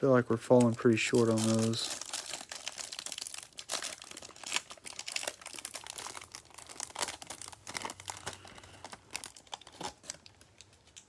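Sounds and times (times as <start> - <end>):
plastic wrapper crinkling: 0.4 - 11.0.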